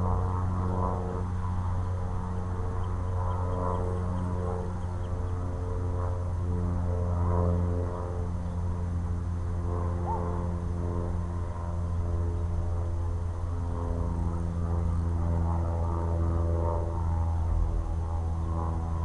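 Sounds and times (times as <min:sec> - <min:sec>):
low droning music: 0:00.0 - 0:19.0.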